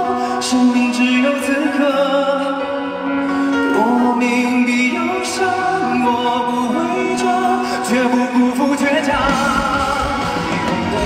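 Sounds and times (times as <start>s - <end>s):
backing music: 0.0s - 11.0s
man singing into microphone: 0.0s - 11.0s.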